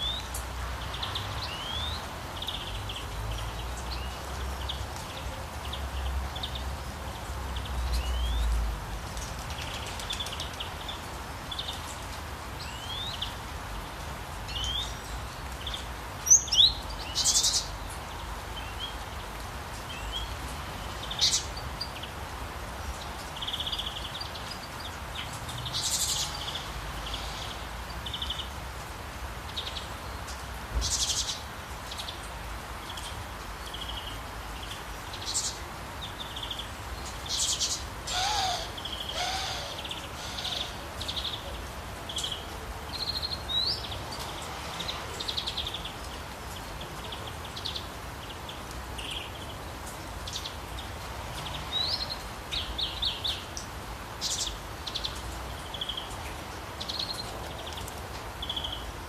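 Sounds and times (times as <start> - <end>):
songbirds chirping: 0.0 - 59.0
running water hiss: 5.6 - 59.0.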